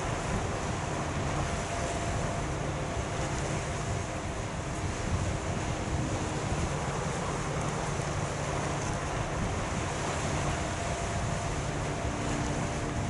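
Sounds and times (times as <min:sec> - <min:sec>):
faint low ferry engine hum: 0:00.0 - 0:13.0
wind noise on microphone: 0:00.0 - 0:13.0.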